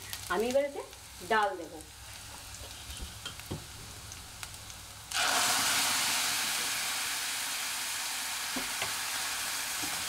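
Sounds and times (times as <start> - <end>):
faint frying: 0.0 - 10.0
loud sizzle of food in oil: 0.0 - 10.0.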